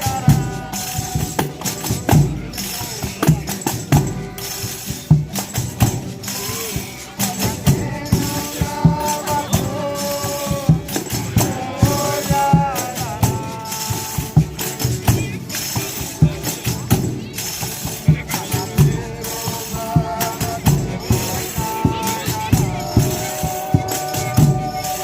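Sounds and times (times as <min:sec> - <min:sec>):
drum strikes: 0:00.0 - 0:25.0
folk melody: 0:00.0 - 0:25.0
tambourines jingling: 0:00.0 - 0:25.0.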